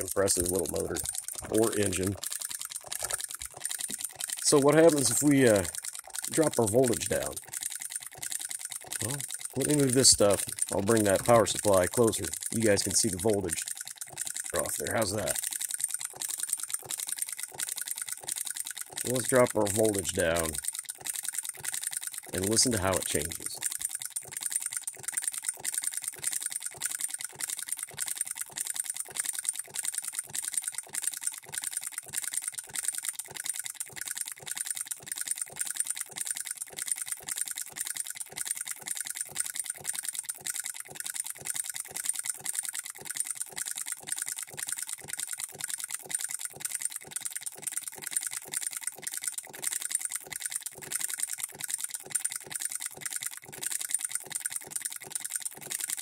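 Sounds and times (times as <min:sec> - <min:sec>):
model engine clicking: 0:00.0 - 0:56.0.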